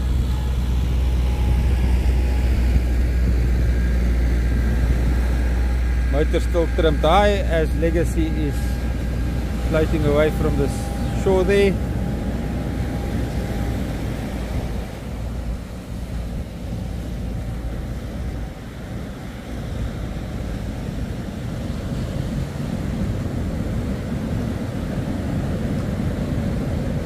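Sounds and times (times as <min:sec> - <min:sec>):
faint engine whine: 0:00.0 - 0:27.0
outboard motors running: 0:00.0 - 0:27.0
surf: 0:00.0 - 0:27.0
wind noise: 0:00.0 - 0:27.0.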